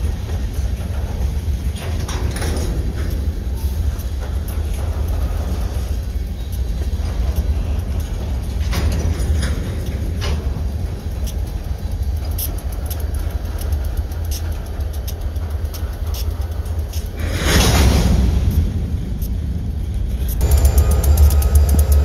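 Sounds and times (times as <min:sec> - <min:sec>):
train wheels rumbling on rail: 0:00.0 - 0:22.0
wheels clicking: 0:00.0 - 0:22.0.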